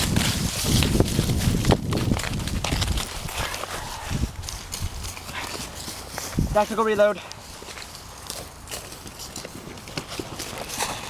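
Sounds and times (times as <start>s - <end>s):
footsteps on ground: 0.0s - 11.0s
gear rustling: 0.0s - 11.0s.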